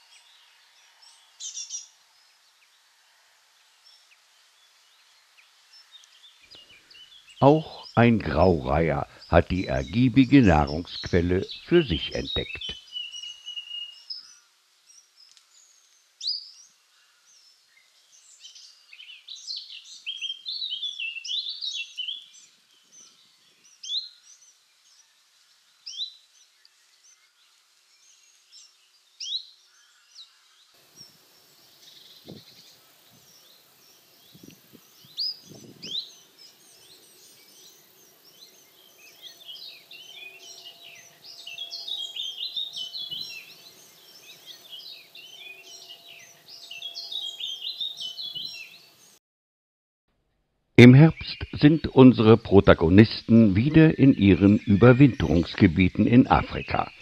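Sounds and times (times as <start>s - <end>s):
songbirds singing: 0.0s - 49.2s, 50.8s - 57.0s.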